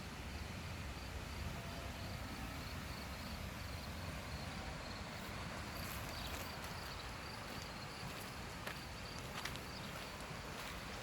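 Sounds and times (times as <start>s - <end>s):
crickets chirping: 0.0s - 11.0s
river rushing: 0.0s - 11.0s.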